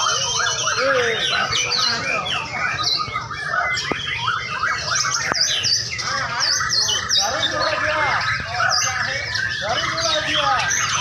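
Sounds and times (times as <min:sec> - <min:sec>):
chorus of songbirds singing: 0:00.0 - 0:11.0.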